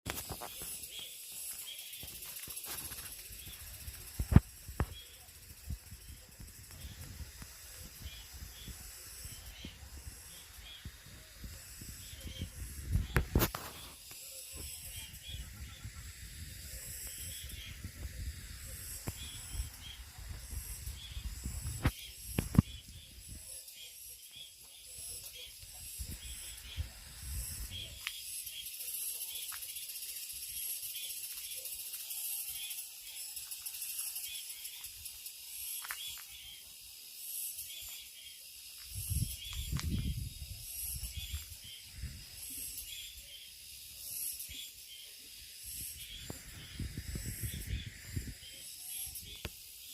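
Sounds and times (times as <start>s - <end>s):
cicadas buzzing: 0.1s - 49.9s.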